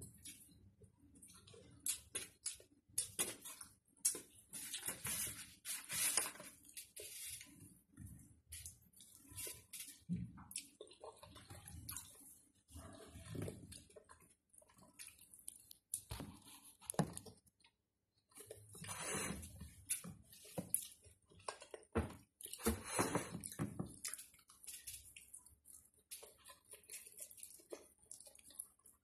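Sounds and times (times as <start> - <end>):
wet chewing: 0.1 - 5.1, 6.2 - 22.7, 23.4 - 29.0.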